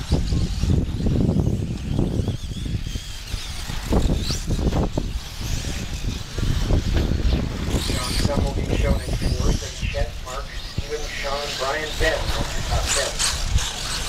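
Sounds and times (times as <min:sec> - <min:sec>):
electric motor whines: 0:00.0 - 0:14.0.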